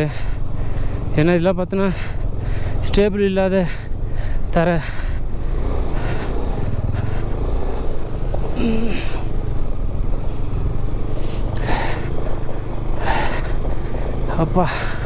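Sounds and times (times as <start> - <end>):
motorcycle engine labouring: 0.0 - 15.0.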